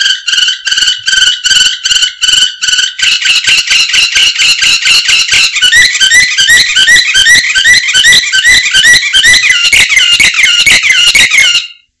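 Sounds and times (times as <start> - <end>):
canary singing chirps: 0.0 - 12.0.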